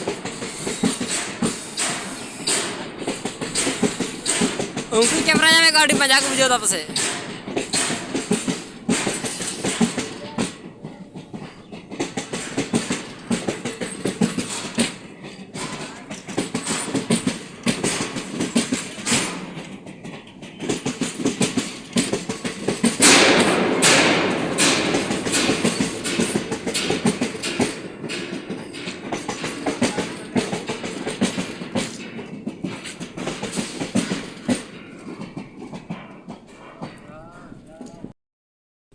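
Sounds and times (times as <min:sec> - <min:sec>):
train rumble: 0:00.0 - 0:38.1
train wheels clattering over rail joints: 0:00.0 - 0:38.1.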